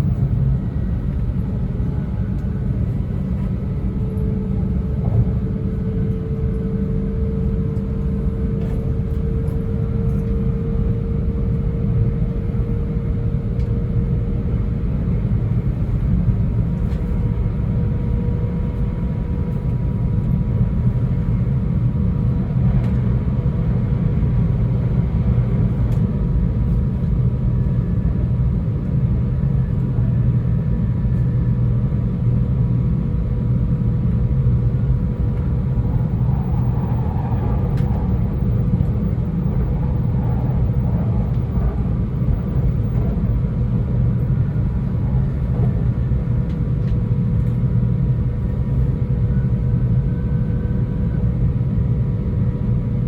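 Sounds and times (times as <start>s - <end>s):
train cabin low rumble: 0.0s - 53.0s.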